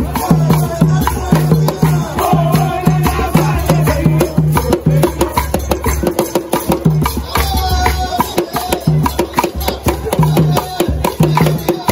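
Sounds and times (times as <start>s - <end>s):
hand drum: 0.0s - 11.9s
voices singing: 0.0s - 11.9s.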